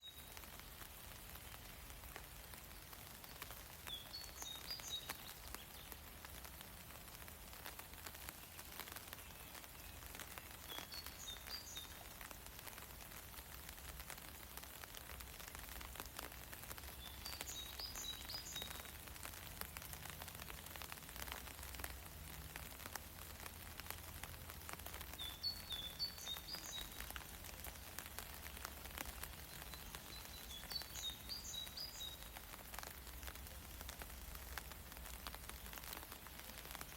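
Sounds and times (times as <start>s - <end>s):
light rain pattering: 0.0s - 36.9s.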